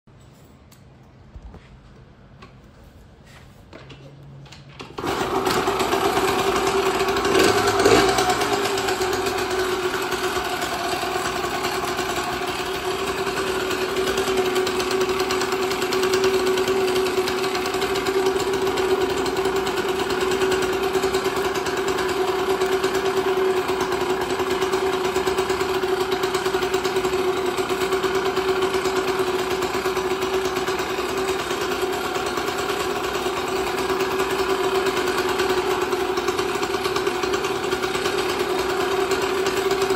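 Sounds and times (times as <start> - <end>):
minibike engine idling: 5.0 - 39.9.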